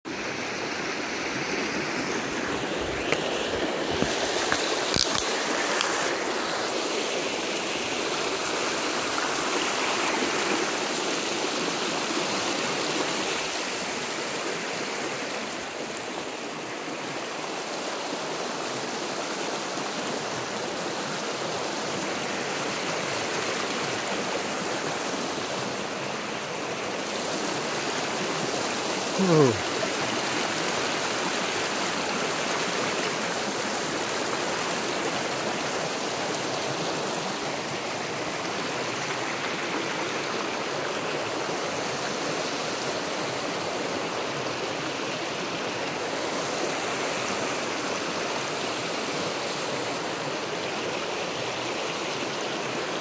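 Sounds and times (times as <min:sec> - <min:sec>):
creek rushing over stones: 0:00.1 - 0:53.0.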